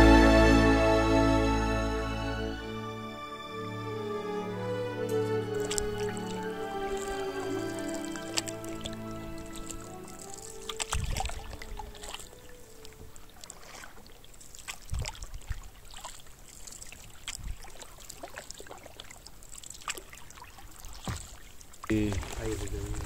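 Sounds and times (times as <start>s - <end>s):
paddle blades splashing: 4.0s - 23.0s
water trickling: 4.5s - 23.0s.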